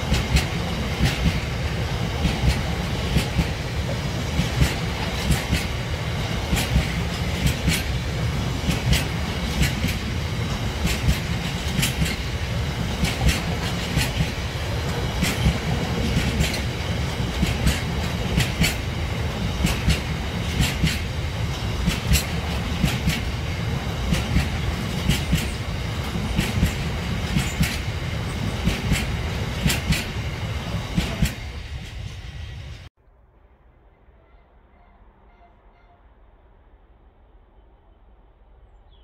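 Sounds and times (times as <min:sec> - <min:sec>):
freight train wheels clickety-clack: 0:00.0 - 0:32.9.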